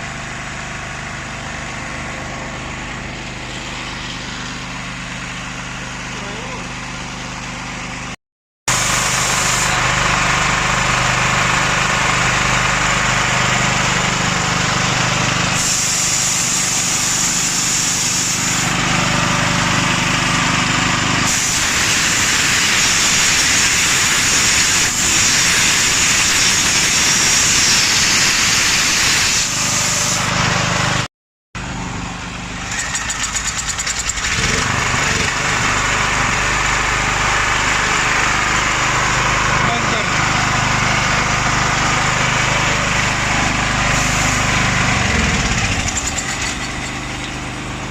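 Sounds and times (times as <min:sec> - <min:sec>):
small generator engine running: 0:00.0 - 0:47.9.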